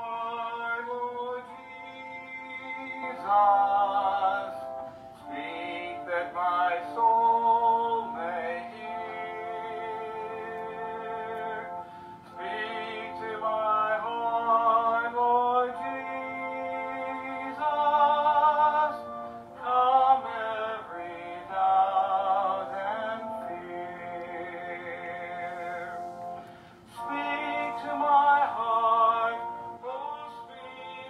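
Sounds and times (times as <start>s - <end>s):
electronic organ chords: 0.0s - 31.0s
person singing with vibrato: 0.0s - 31.0s.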